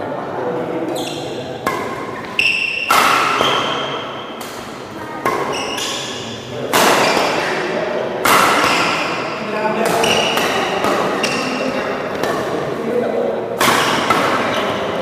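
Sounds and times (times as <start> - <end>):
racket hitting shuttlecock: 0.9 - 12.9, 13.5 - 15.0.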